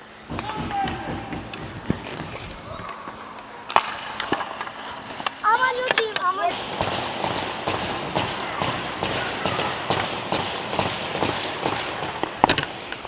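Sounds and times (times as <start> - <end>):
skate strides scraping on ice: 0.0 - 13.0.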